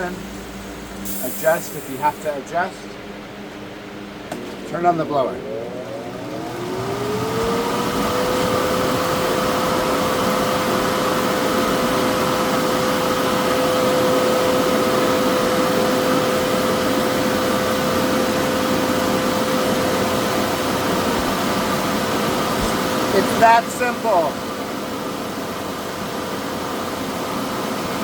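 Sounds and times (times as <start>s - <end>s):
air blower whining: 0.0s - 25.5s.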